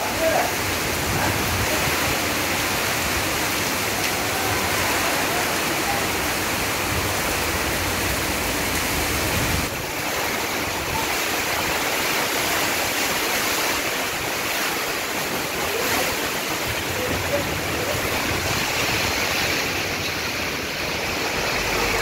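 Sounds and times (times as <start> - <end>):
heavy rain on tin roofs: 0.0 - 22.0
water running off roof: 0.0 - 22.0.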